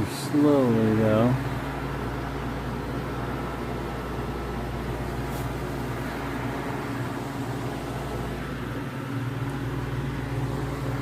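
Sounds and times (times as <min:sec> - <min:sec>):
fan noise: 0:00.0 - 0:11.0
refrigeration motor hum: 0:00.0 - 0:11.0.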